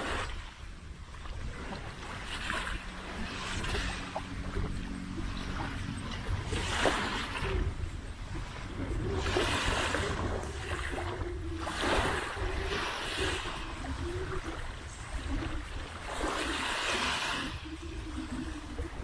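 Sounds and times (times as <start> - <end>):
faint wavering engine drone: 0.0 - 19.0
small waves washing onto beach: 0.0 - 19.0.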